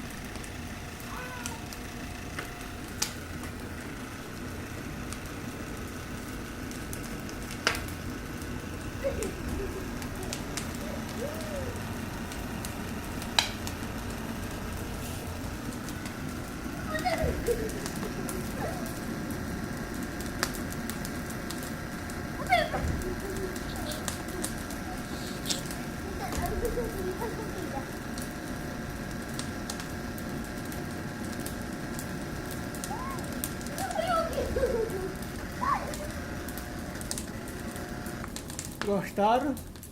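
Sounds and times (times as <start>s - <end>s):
bonfire crackling: 0.0s - 39.9s
fire popping: 0.0s - 39.9s
steady hiss and hum: 0.0s - 39.9s.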